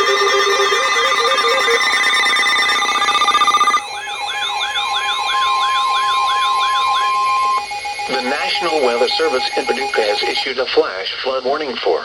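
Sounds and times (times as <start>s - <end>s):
siren-like sweeps: 0.0s - 10.5s
warbling alarm tones: 0.0s - 10.6s
steady high warning tone: 0.0s - 11.0s.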